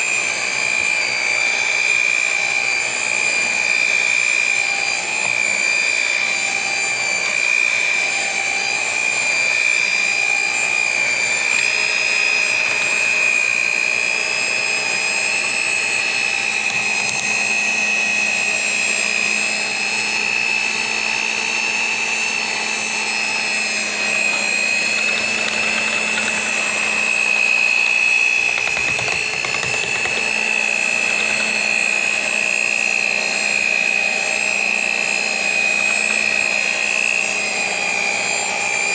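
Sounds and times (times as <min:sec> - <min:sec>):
electric mixer motor whining: 0:00.0 - 0:38.9.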